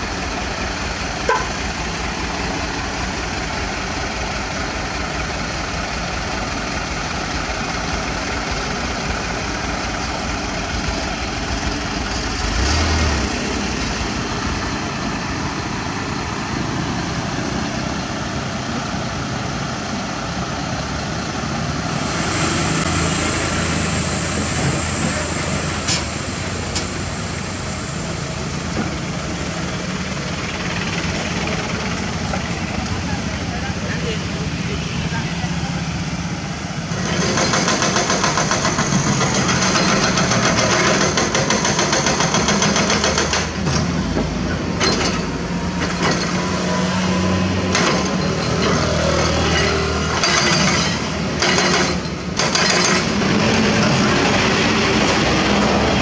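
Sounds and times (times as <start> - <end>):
diesel truck engines running: 0.0 - 56.0.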